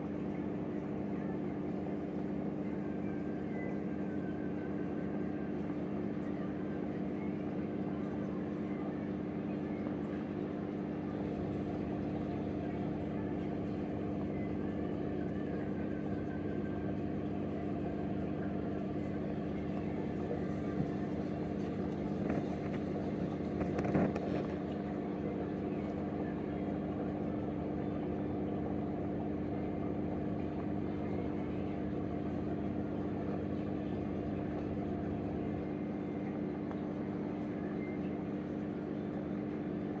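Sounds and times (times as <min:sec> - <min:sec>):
aquarium pump humming: 0:00.0 - 0:40.0.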